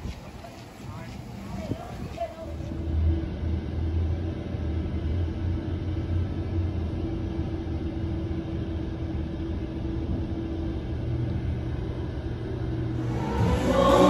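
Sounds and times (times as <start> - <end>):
faint constant hum: 0.0 - 14.0
steady low rumble: 0.0 - 14.0.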